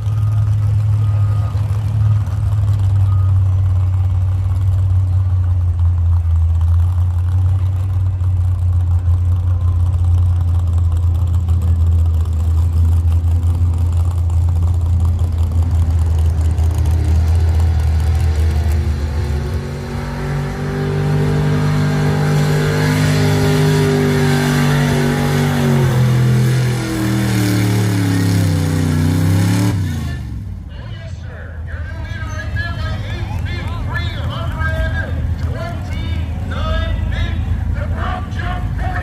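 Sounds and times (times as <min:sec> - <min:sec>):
truck engine droning: 0:00.0 - 0:39.0.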